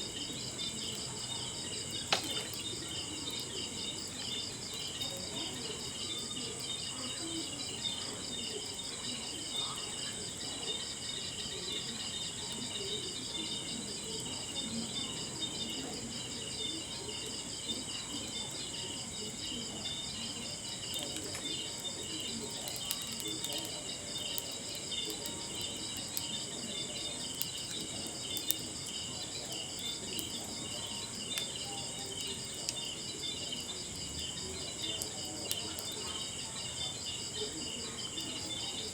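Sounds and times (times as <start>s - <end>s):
burning logs popping: 0.0s - 12.7s, 13.6s - 38.9s
crackling wood fire: 0.0s - 38.9s
crickets chirping: 0.0s - 38.9s.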